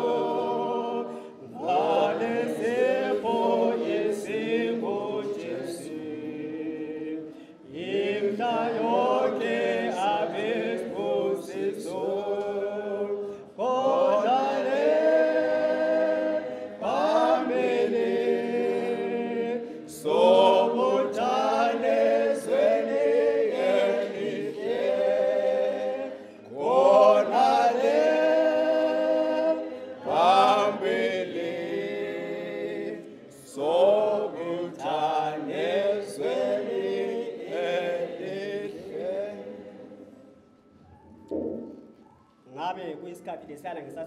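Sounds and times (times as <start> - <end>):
group singing a cappella: 0.0 - 42.0.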